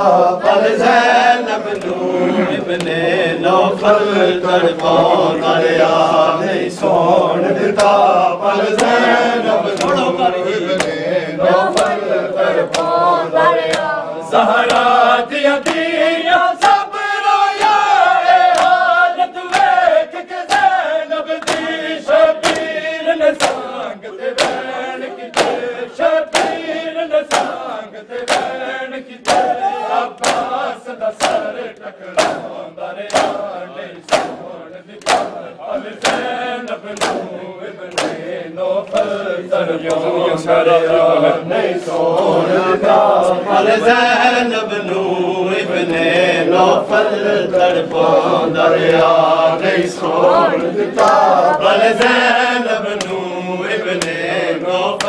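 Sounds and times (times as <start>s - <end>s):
men chanting in unison: 0.0s - 55.0s
rhythmic chest slapping: 0.0s - 55.0s.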